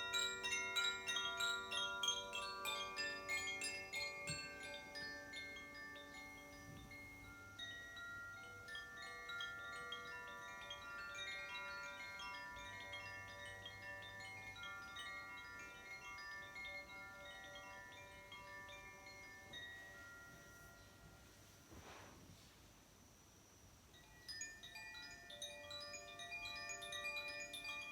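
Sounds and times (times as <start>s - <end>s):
chimes ringing: 0.0s - 21.4s, 24.0s - 27.9s.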